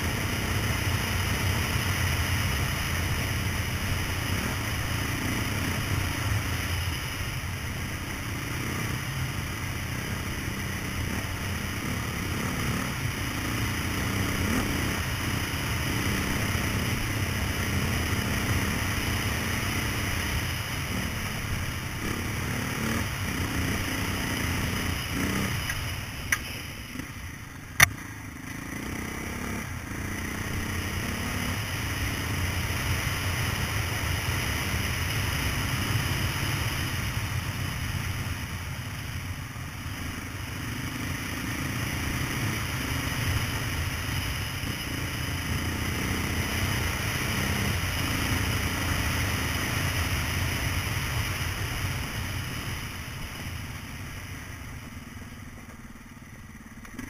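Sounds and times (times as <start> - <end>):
off-road motorcycle engine: 0.0 - 57.0.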